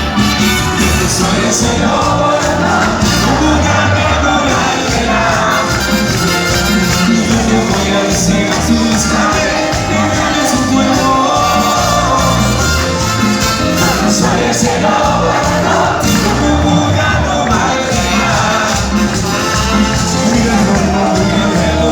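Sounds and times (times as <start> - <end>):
crowd singing and shouting: 0.0 - 21.9
latin dance band playing: 0.0 - 21.9.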